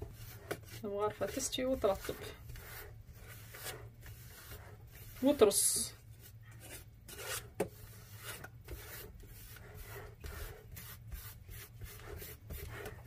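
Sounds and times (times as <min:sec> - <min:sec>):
spoon scraping biscuit crumbs: 0:00.0 - 0:13.0.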